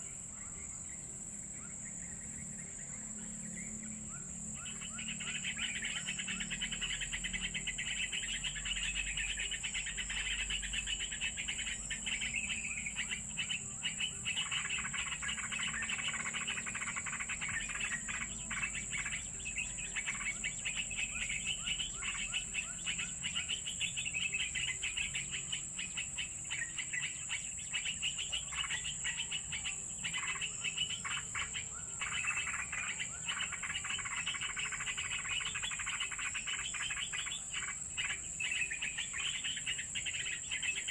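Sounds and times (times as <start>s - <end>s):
birds chirping: 0.0s - 40.9s
high-pitched insect drone: 0.0s - 40.9s.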